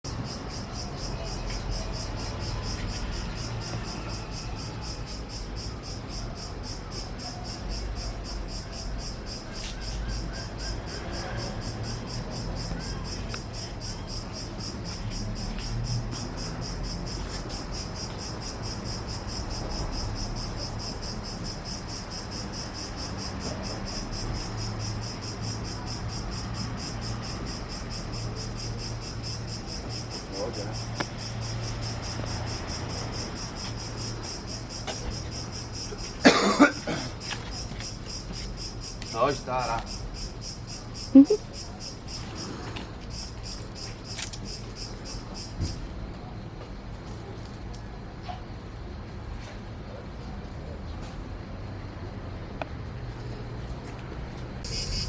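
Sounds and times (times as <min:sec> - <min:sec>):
insect chorus trilling: 0:00.1 - 0:46.0, 0:54.6 - 0:55.0.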